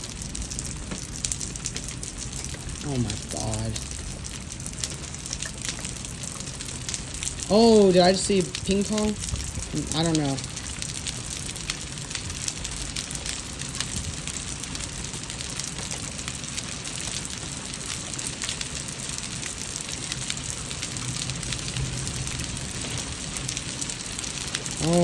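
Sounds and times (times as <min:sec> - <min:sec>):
hailstones clicking: 0:00.0 - 0:25.0
heavy rain hissing: 0:00.0 - 0:25.0.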